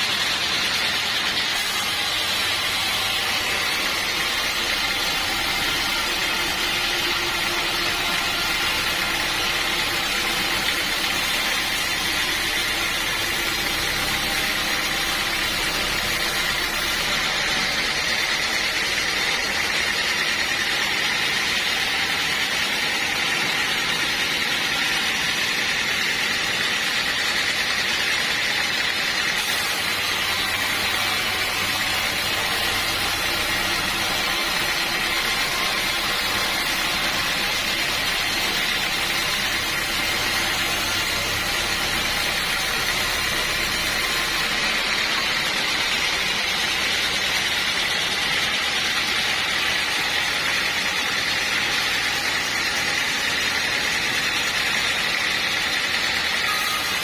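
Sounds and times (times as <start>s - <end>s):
sawmill machinery hissing and humming: 0.0s - 57.0s.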